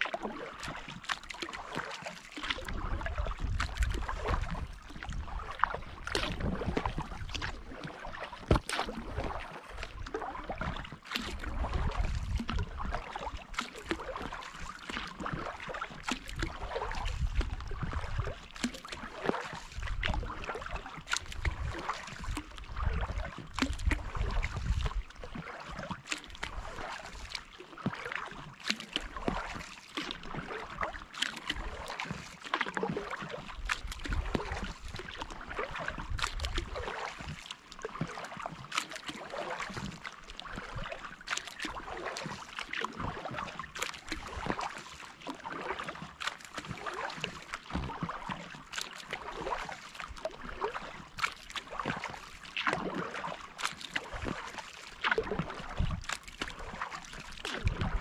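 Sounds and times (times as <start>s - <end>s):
paddle splashing in water: 0.0s - 58.0s.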